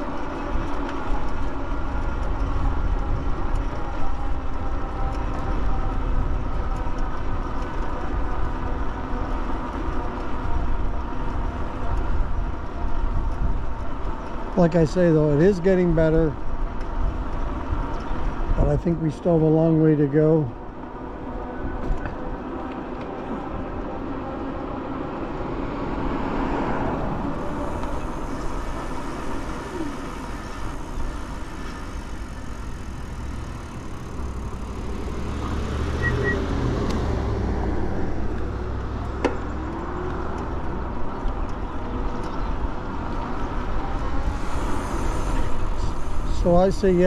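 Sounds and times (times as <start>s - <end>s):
tyre road noise: 0.0s - 47.0s.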